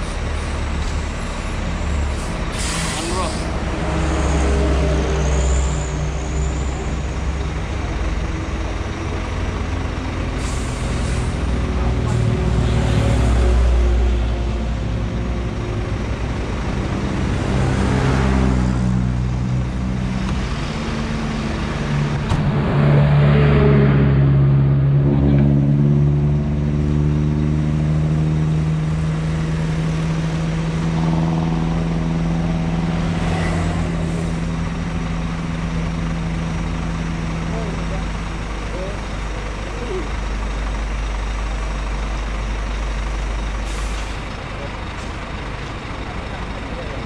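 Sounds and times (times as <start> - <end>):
diesel truck engine: 0.0 - 47.0.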